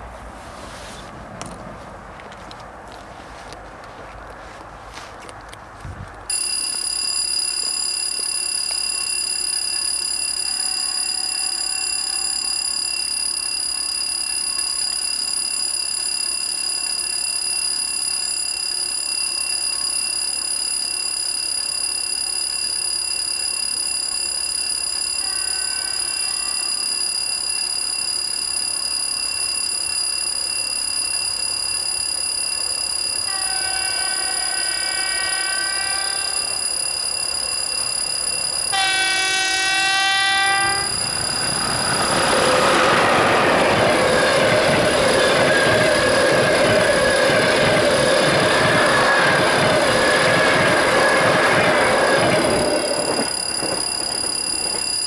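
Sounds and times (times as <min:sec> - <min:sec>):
steel rails ringing: 0:06.3 - 0:55.0.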